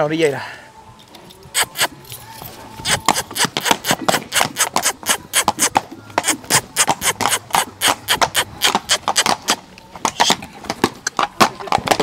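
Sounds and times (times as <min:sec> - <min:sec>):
horse hoofbeats: 0:01.4 - 0:12.0.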